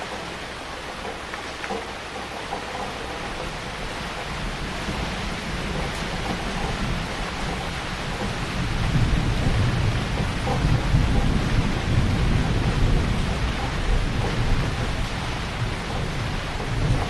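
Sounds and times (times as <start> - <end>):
heavy rain falling: 0.0 - 17.0
low thunder rumble: 2.8 - 17.0.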